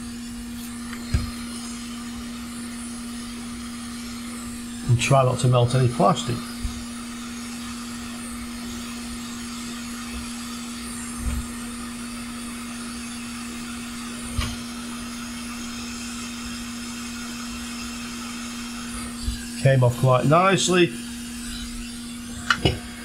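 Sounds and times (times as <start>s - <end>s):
fan hum with air hiss: 0.0s - 23.0s.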